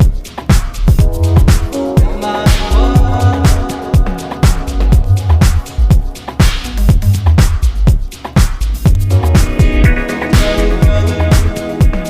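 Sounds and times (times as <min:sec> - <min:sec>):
upbeat funk dance music: 0:00.0 - 0:12.0.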